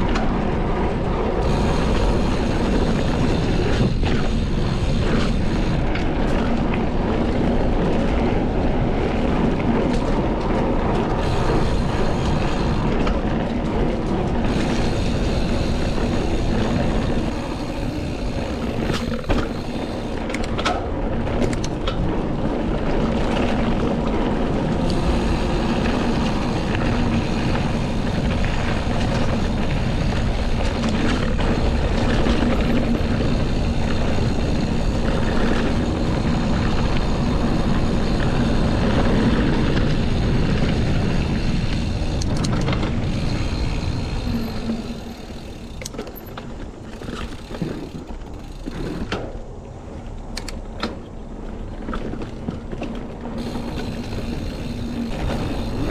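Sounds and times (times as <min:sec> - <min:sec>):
wind on microphone: 0:00.0 - 0:46.0, 0:46.6 - 0:55.9
bike clicks and rattles: 0:00.0 - 0:55.9
bike tyres rolling over gravel: 0:00.0 - 0:55.9.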